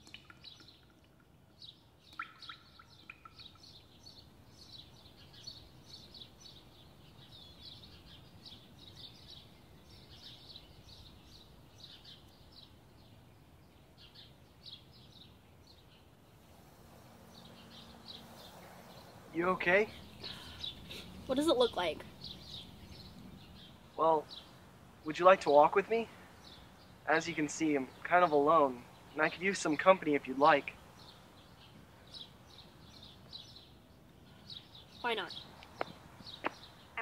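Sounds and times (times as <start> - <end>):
low steady background noise: 0.0 - 37.0
small songbirds chirping: 0.0 - 37.0.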